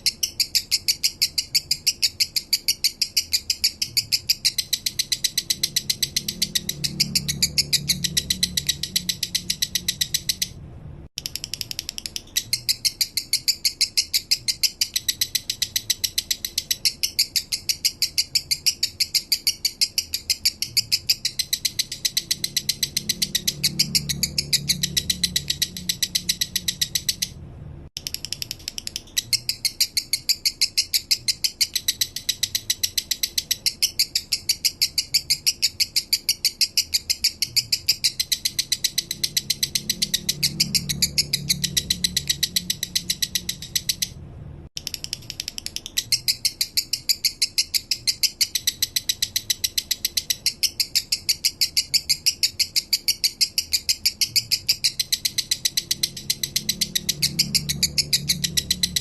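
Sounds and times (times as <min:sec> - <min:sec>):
lovebird chattering chirps: 0:00.0 - 0:10.6, 0:11.2 - 0:27.4, 0:28.0 - 0:44.2, 0:44.8 - 0:59.0.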